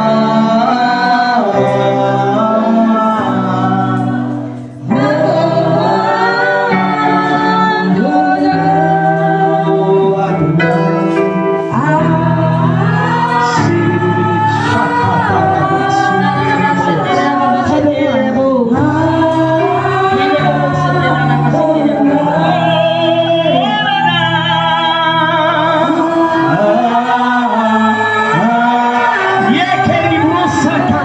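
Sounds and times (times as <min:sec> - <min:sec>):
choir singing gospel: 0:00.0 - 0:31.0
low accompaniment: 0:00.0 - 0:31.0.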